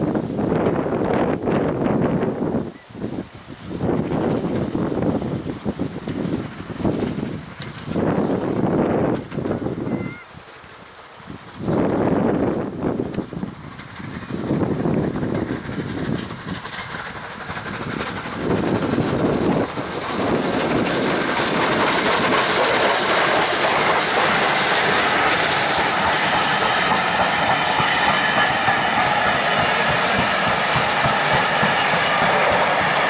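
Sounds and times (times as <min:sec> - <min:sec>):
steam locomotive exhaust: 0:00.0 - 0:33.0
train wheels clicking over rail joints: 0:03.4 - 0:33.0.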